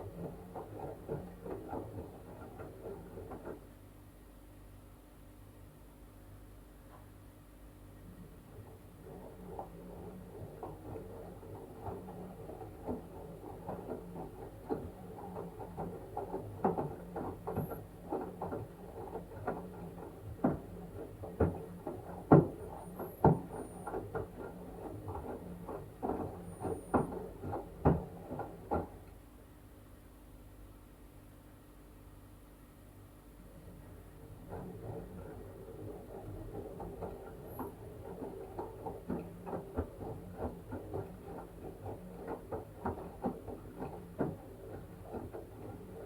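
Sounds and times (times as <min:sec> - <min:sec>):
wet laundry slapping in drum: 0:00.0 - 0:03.7, 0:08.4 - 0:29.1, 0:33.4 - 0:46.0
washing machine motor hum: 0:00.0 - 0:06.7, 0:07.6 - 0:30.8, 0:32.1 - 0:46.0.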